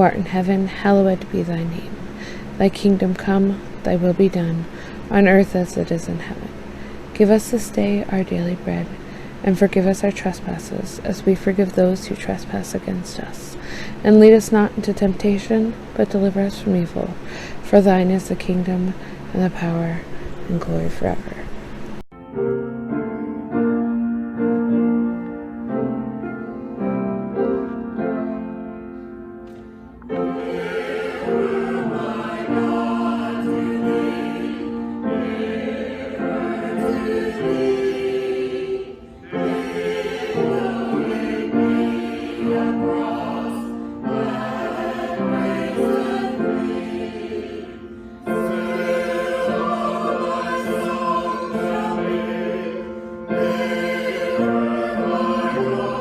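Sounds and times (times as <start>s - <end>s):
choir singing church music: 0.0s - 20.3s, 21.6s - 56.0s.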